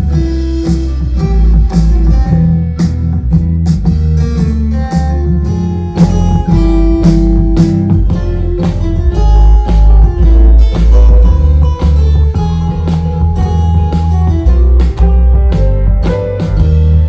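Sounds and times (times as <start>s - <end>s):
guitar beat with deep bass: 0.0s - 17.0s.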